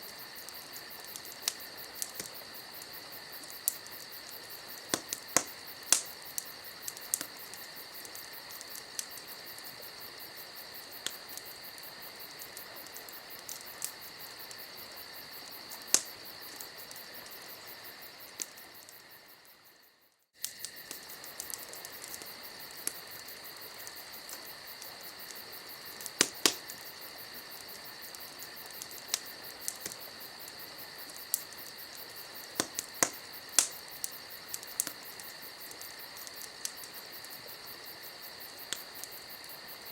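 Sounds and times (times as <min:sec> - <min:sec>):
campfire crackling and popping: 0:00.0 - 0:19.7, 0:20.4 - 0:39.9
night insects chirring: 0:00.0 - 0:39.9.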